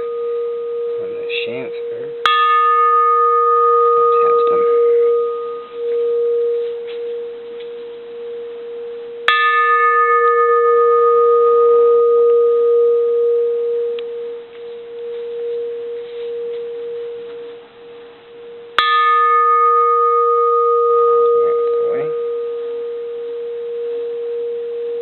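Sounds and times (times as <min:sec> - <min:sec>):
bronze bell struck and ringing: 0:00.0 - 0:25.0.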